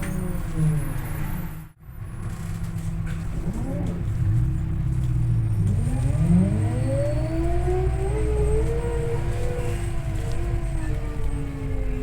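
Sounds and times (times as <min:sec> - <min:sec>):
bus drivetrain whine: 0:00.0 - 0:12.0
low engine rumble: 0:00.0 - 0:12.0.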